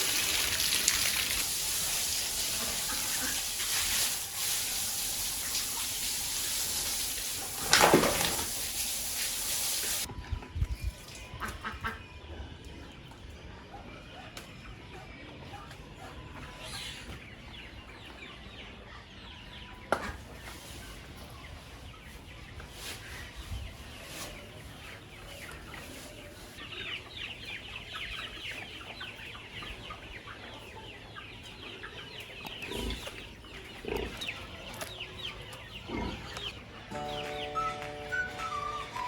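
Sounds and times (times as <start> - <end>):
chickens clucking: 0.1 - 4.6, 11.2 - 39.0.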